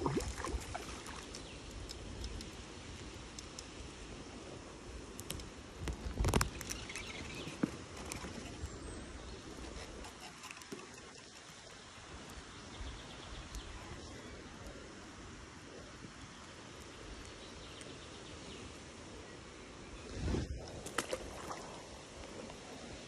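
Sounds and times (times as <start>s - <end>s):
light rain on leaves and water: 0.0s - 9.4s, 10.5s - 20.0s, 20.6s - 23.0s.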